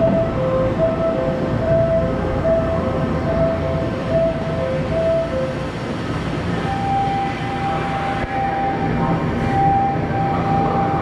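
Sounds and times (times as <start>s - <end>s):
station platform hum and rush: 0.0s - 11.0s.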